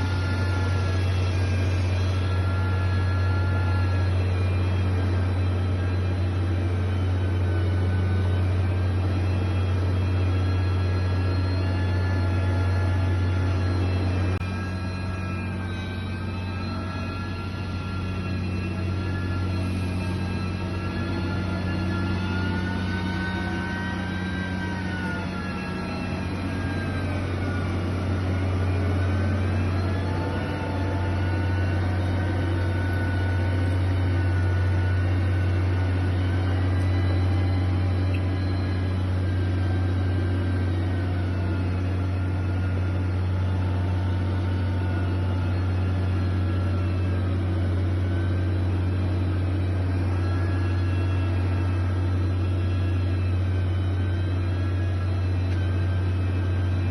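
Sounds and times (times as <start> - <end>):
heavy machine engine running: 0.0 - 56.9.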